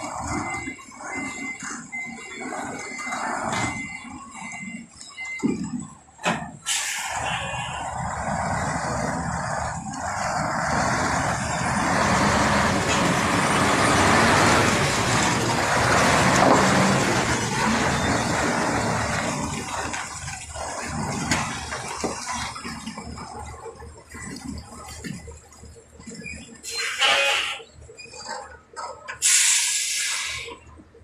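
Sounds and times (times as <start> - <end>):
tanker truck driving past: 0.0 - 31.0.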